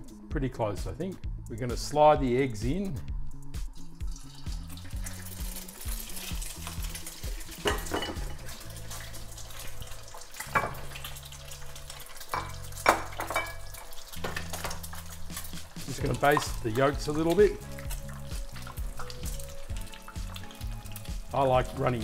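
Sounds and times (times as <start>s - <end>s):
eggs sizzling in hot oil: 3.4s - 22.0s
oil popping and spitting: 3.6s - 22.0s.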